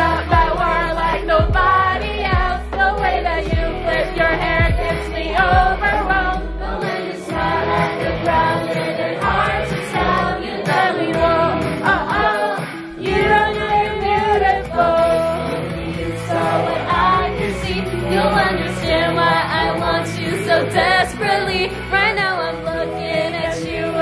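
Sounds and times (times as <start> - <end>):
backing track music: 0.0 - 24.0
people singing into microphones: 0.0 - 24.0.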